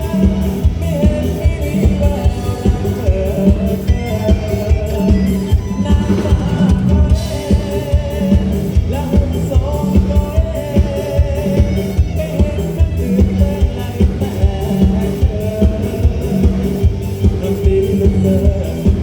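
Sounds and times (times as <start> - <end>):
drum kit steady beat: 0.0 - 19.0
live band music: 0.0 - 19.0.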